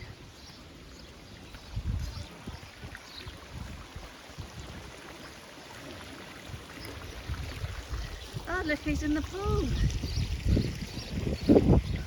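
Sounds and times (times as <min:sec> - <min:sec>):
wind rumbling on microphone: 0:00.0 - 0:05.3, 0:06.4 - 0:12.0.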